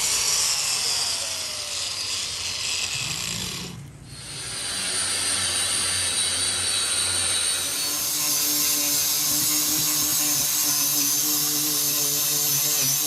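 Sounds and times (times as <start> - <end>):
power tool rasping hiss: 0.0 - 13.0.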